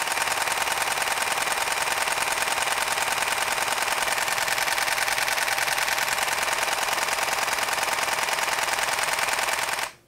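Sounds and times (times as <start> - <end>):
camera shutter burst: 0.0 - 10.0.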